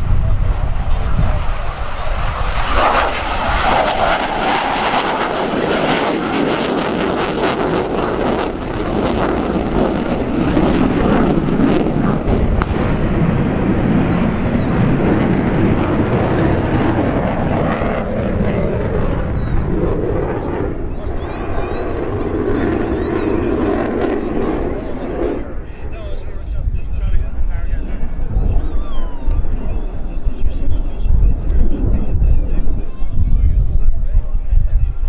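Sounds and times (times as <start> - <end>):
crackling jet engine noise: 0.0 - 35.0.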